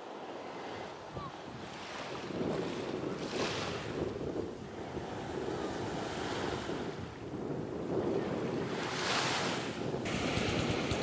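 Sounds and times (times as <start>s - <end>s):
wind buffeting microphone: 0.4s - 11.0s
surf washing onto sand: 2.0s - 11.0s.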